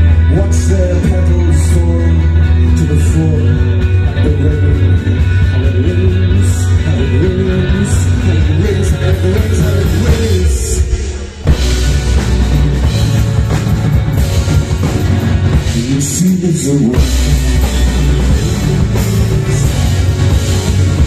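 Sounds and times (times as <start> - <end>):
man singing: 0.0 - 11.6, 15.4 - 21.0
live rock band playing: 0.0 - 21.0.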